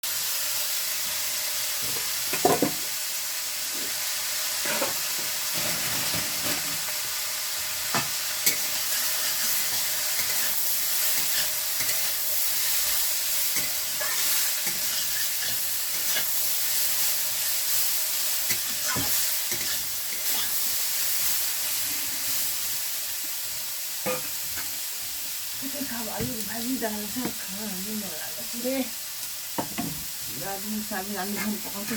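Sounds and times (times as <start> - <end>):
food sizzling in a pan: 0.0 - 31.9.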